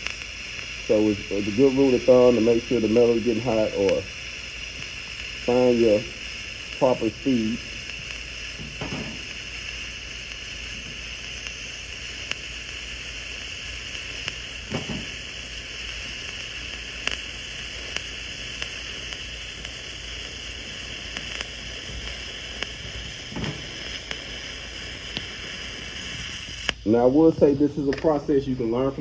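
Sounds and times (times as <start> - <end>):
welding arc hissing: 0.0 - 29.0.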